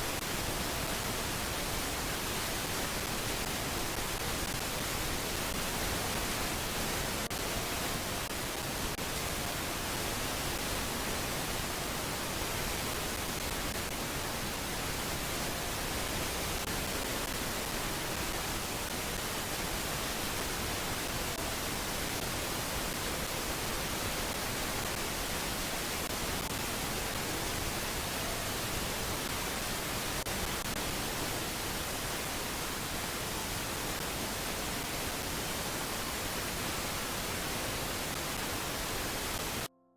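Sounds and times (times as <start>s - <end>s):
steady hiss: 0.0s - 39.7s.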